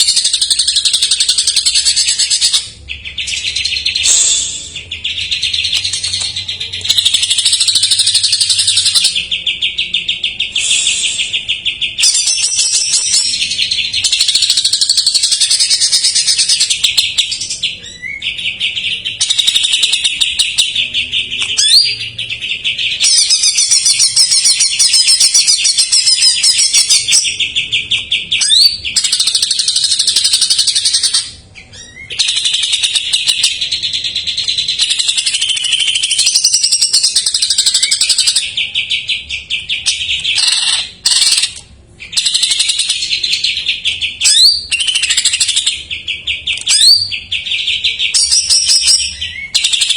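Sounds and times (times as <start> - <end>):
bird singing trills: 0.0 - 49.9.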